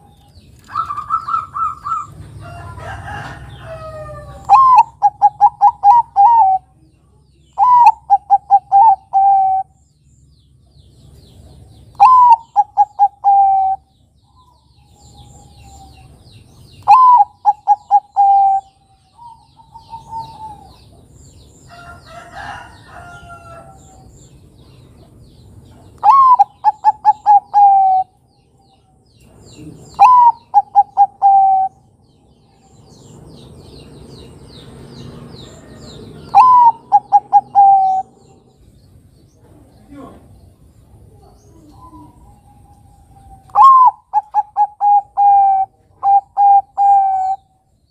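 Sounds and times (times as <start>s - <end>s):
dove cooing song: 0.0s - 6.8s, 7.5s - 9.8s, 11.4s - 24.1s, 24.9s - 33.5s, 35.0s - 38.7s, 40.6s - 47.8s.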